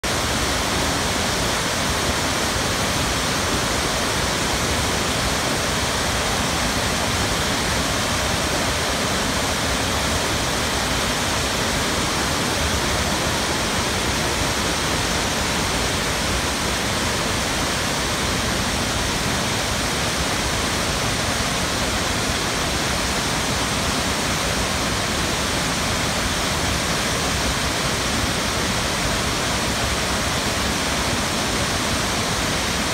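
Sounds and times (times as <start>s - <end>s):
waterfall rushing: 0.0s - 32.9s.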